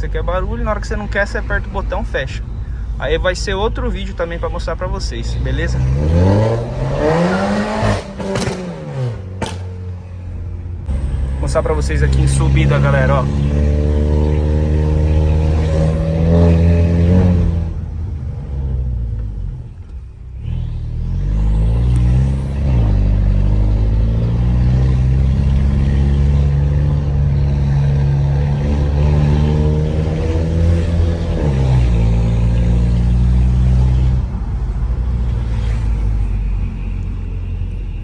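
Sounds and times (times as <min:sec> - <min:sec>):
car engine pulling uphill: 0:00.0 - 0:38.0.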